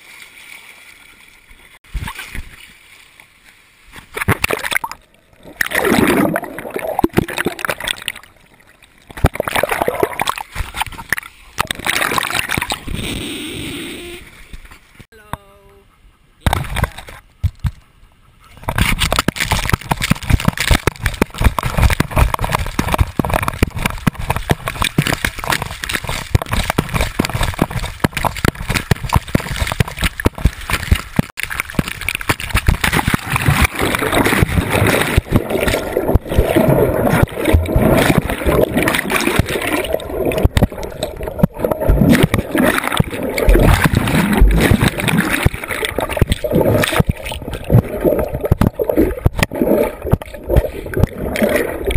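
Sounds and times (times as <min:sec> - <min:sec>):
water splashing and sloshing: 0:00.0 - 0:15.1, 0:16.4 - 0:51.9.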